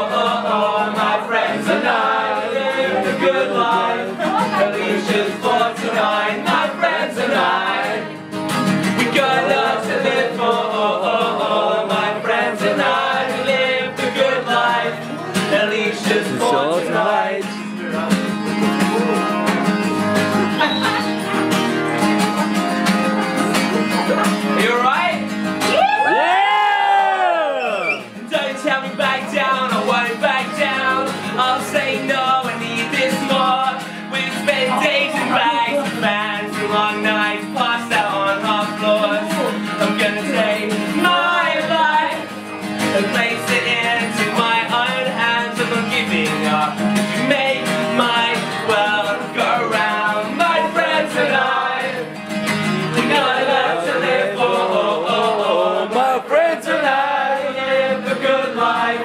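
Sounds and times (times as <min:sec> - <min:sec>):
person singing: 0:00.0 - 0:08.1, 0:09.0 - 0:19.6, 0:27.8 - 0:42.3, 0:42.9 - 0:52.0, 0:52.8 - 0:59.0
acoustic guitar: 0:00.0 - 0:59.0.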